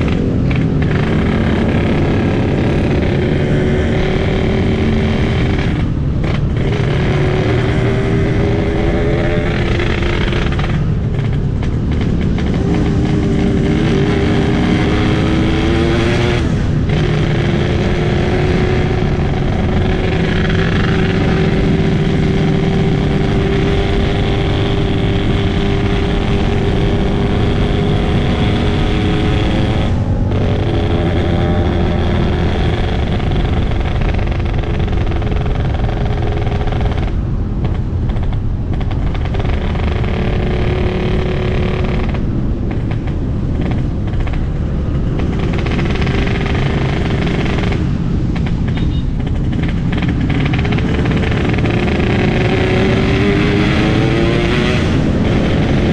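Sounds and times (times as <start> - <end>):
raspy motorcycle engine revving: 0.0 - 55.9.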